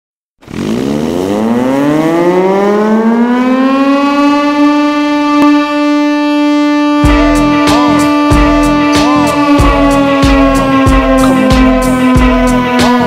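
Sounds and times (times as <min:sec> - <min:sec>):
ship siren wailing: 0:00.6 - 0:13.0.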